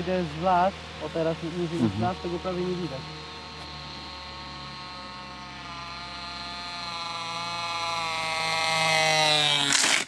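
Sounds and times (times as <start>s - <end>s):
model airplane engine running: 0.0s - 10.0s.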